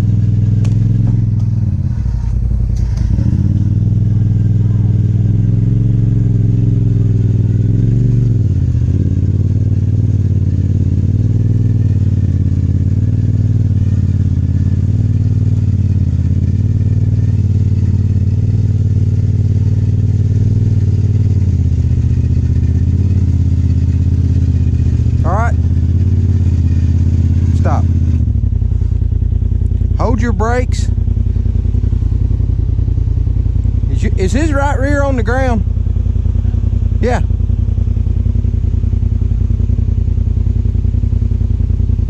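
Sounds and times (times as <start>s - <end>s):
engine idling: 0.0s - 42.0s.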